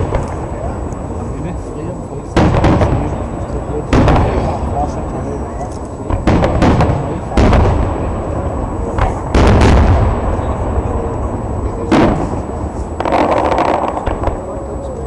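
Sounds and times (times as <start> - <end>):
firework shells booming: 0.0 - 14.9.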